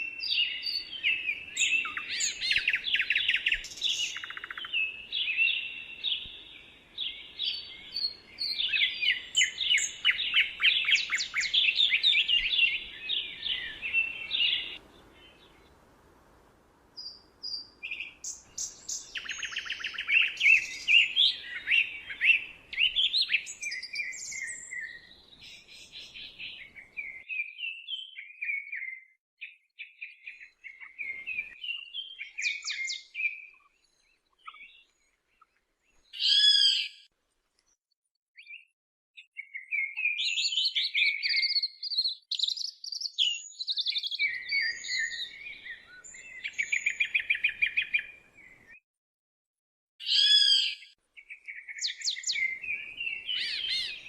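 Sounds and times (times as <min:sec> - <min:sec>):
songbirds chirping and warbling: 0:00.0 - 0:15.9, 0:17.0 - 0:37.1, 0:38.4 - 0:48.8, 0:50.0 - 0:54.0.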